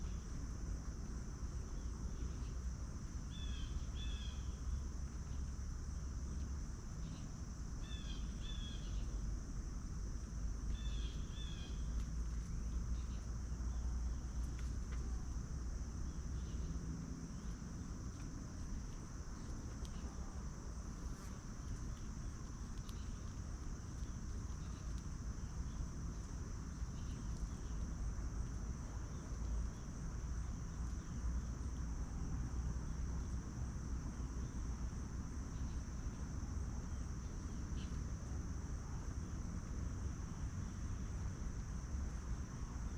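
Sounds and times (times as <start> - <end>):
crickets trilling: 0.0 - 42.9.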